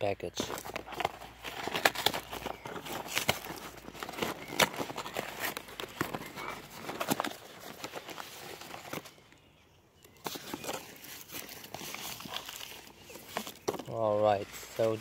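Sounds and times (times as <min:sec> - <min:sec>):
paper packing crinkling: 0:00.3 - 0:09.2, 0:10.2 - 0:15.0
cardboard box and tape tearing: 0:00.4 - 0:09.1, 0:10.2 - 0:15.0.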